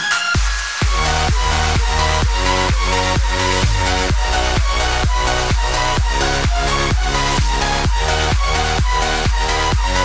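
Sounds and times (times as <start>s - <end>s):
electronic dance music: 0.0s - 10.0s
kick drum beat: 0.4s - 10.0s.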